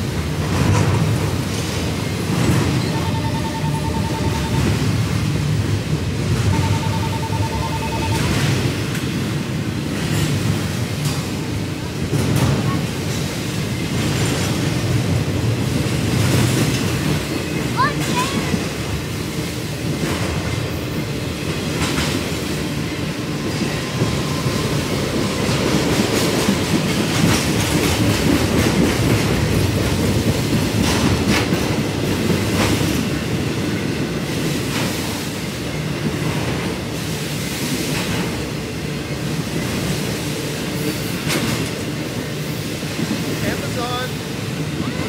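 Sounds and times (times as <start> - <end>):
freight train rumble: 0.0 - 45.0
wheels clacking on rails: 0.0 - 45.0.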